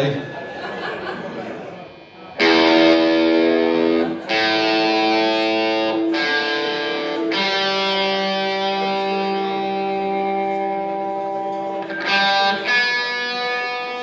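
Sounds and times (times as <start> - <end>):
electric guitar chords: 1.3 - 14.0.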